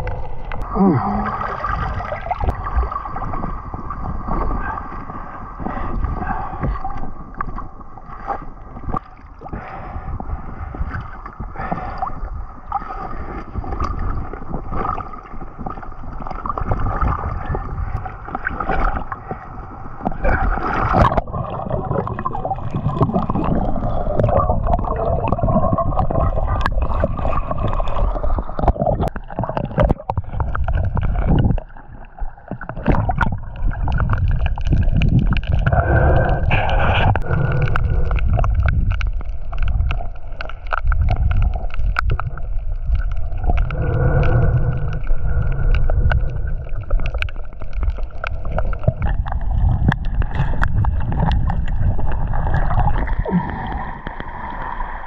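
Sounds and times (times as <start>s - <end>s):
water gurgling underwater: 0.0s - 55.0s.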